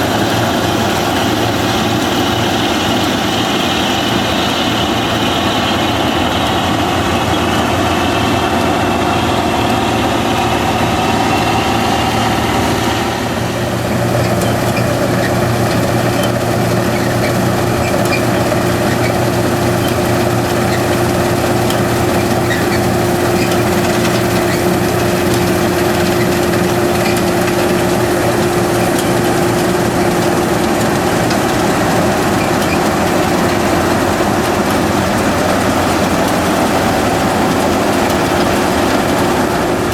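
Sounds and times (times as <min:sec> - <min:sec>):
harvest machinery engines running: 0:00.0 - 0:39.9.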